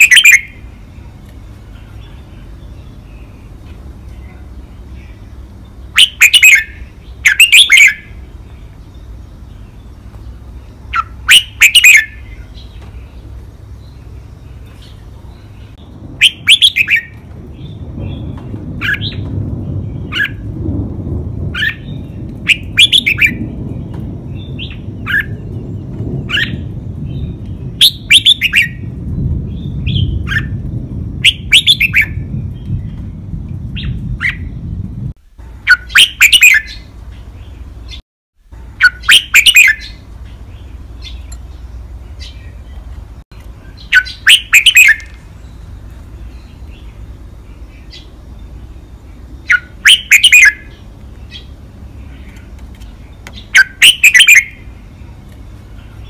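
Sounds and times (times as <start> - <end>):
bird singing: 0.0 - 20.5, 21.5 - 38.0, 38.6 - 56.0
low background rumble: 0.0 - 35.7, 36.6 - 56.0.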